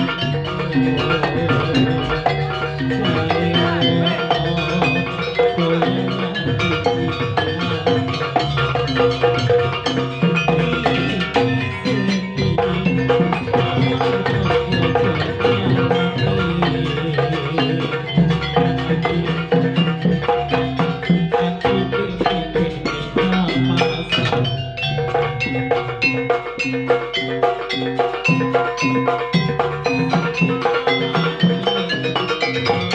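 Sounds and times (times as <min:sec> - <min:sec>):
drums: 0:00.0 - 0:32.9
mallet-struck percussion: 0:00.0 - 0:32.9.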